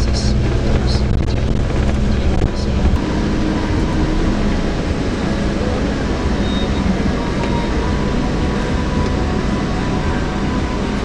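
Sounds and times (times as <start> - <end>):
coach engine and road noise: 0.0 - 11.0
faint hum: 0.0 - 11.0.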